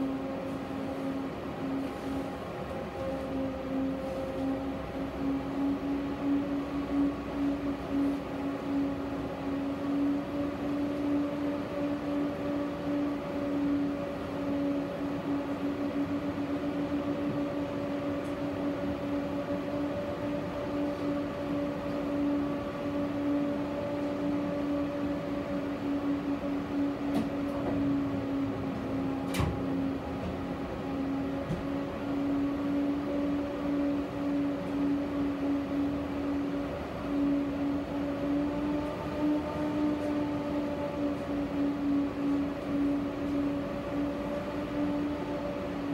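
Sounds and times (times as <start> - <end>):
electrical hum: 0.0 - 45.9
tram running noise: 0.0 - 45.9.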